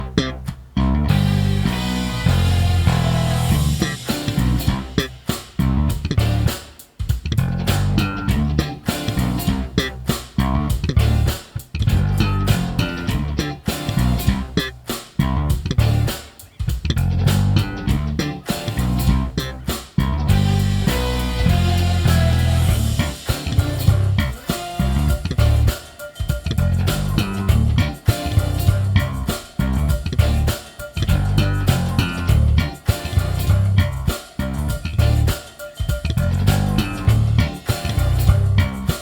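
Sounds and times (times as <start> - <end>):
electric bass playing: 0.0 - 6.6, 7.3 - 39.0.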